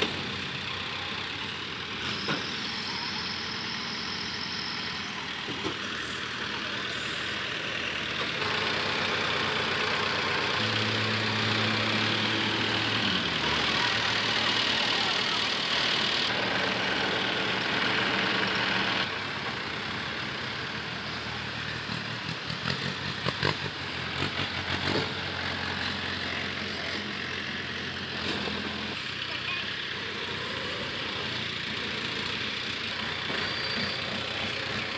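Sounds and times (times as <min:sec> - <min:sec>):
tractor diesel engines revving: 0:00.0 - 0:34.9.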